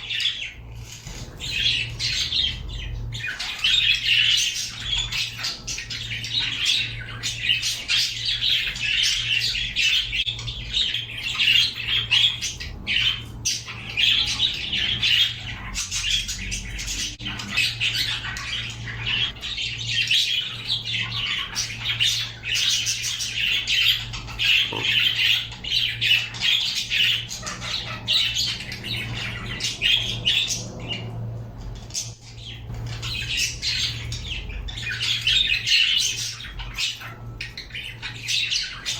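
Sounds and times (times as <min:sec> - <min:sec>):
birds chattering and squawking: 0:00.0 - 0:38.9
steady low hum: 0:00.0 - 0:38.9.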